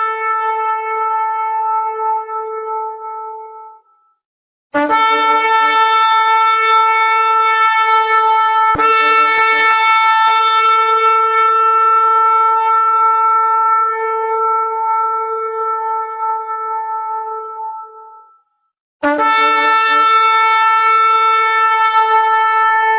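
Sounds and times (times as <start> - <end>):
shofar blast: 0.0 - 3.9, 4.8 - 18.3, 19.0 - 22.9.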